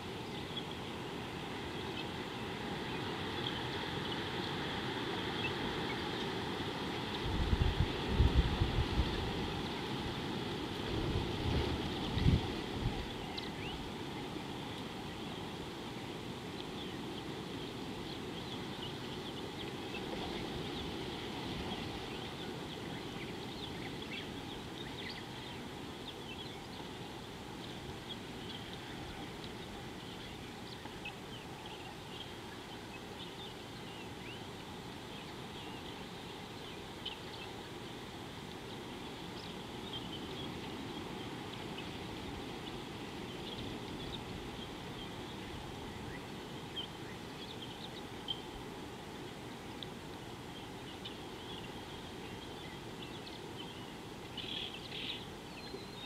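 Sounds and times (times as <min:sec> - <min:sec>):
low background noise: 0:00.0 - 0:56.0.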